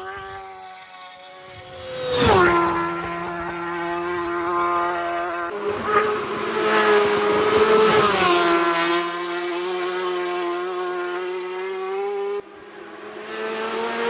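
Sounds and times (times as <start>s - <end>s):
motorcycle passing by: 0.0s - 14.0s.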